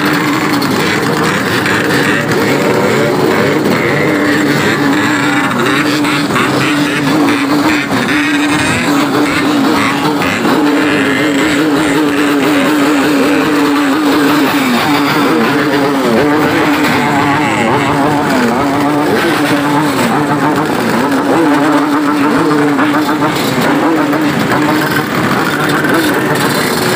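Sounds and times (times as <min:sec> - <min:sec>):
motorcycle engine revving: 0:00.0 - 0:26.9
motorcycle engines running: 0:00.0 - 0:26.9.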